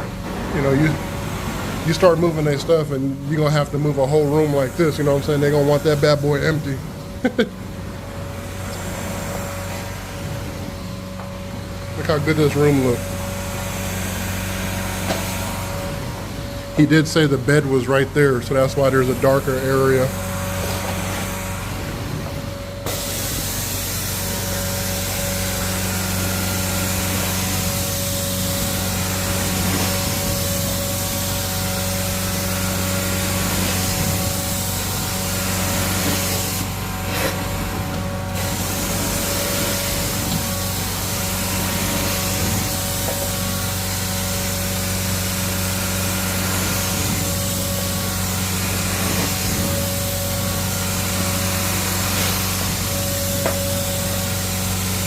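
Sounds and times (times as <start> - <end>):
motor hum: 0.0 - 55.0
vacuum and spray hissing: 0.0 - 55.0.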